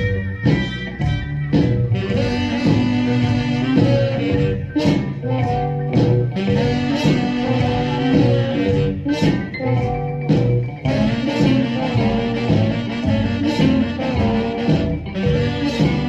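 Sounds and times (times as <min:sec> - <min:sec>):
rock and roll instrumental record: 0:00.0 - 0:16.0.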